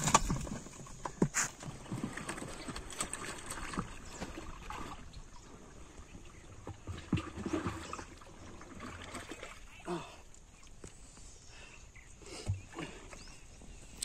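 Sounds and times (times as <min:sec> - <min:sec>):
water splashing and sloshing: 0:00.0 - 0:11.6.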